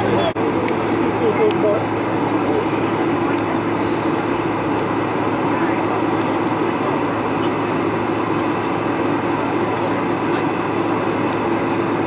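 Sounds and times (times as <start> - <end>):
aircraft engines rumbling: 0.0 - 12.0.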